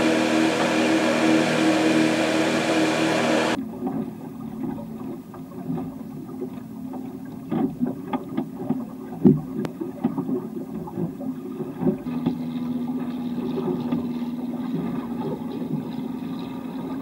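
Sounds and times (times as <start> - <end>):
water slapping against hull: 0.0 - 17.0.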